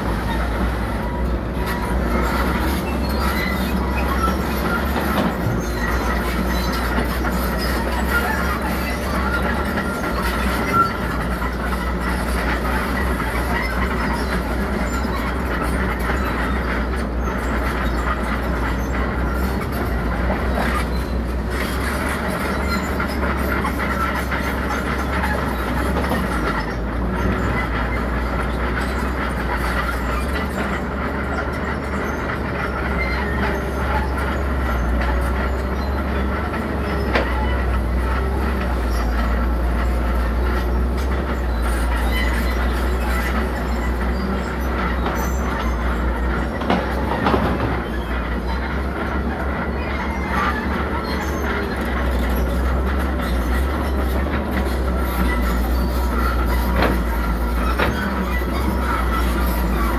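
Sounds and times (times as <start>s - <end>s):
diesel engine rumbling: 0.0s - 59.9s
steel tracks squealing: 0.0s - 59.9s.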